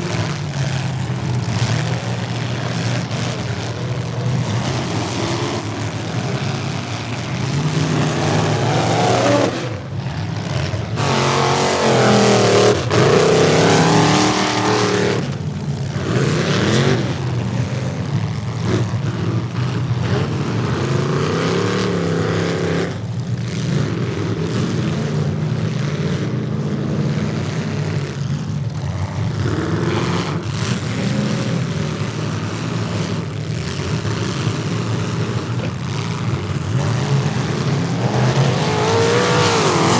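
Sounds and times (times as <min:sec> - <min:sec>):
car engines revving hard: 0:00.0 - 0:39.9.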